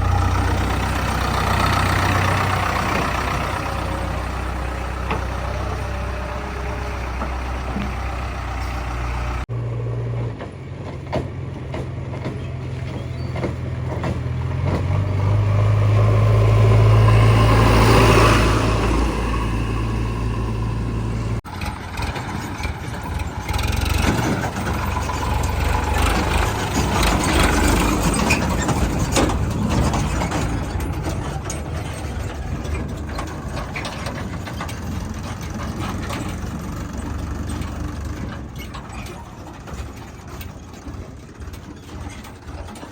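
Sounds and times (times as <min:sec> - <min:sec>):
diesel engines running: 0:00.0 - 0:42.9.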